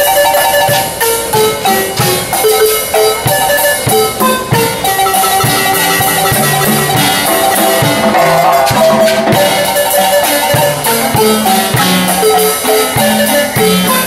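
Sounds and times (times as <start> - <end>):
drum kit beat: 0.0 - 14.0
marimba playing a lively tune: 0.0 - 14.0.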